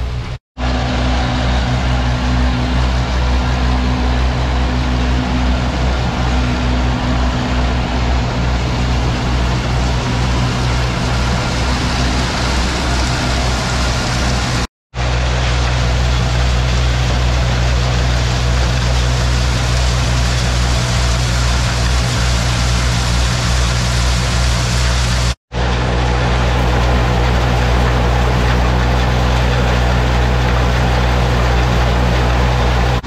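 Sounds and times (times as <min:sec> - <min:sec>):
blower fan rushing: 0:00.0 - 0:33.0
tractor engine running under load: 0:00.1 - 0:33.0.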